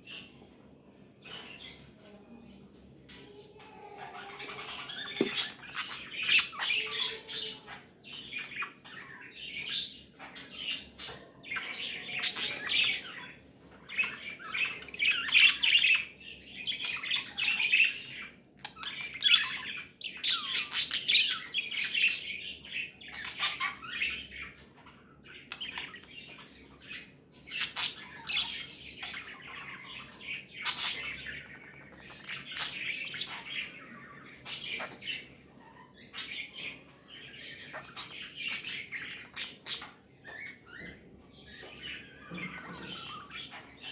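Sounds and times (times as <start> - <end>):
budgerigars chirping and squawking: 1.2 - 2.2, 3.1 - 43.9.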